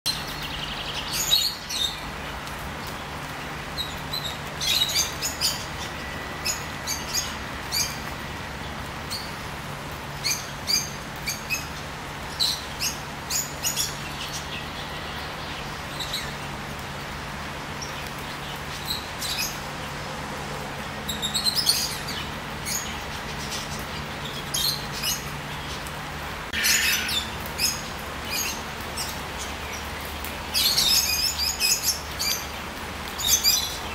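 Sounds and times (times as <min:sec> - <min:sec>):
songbirds chirping and whistling: 0:00.1 - 0:16.8, 0:21.0 - 0:33.9
rain on foliage: 0:00.1 - 0:33.9.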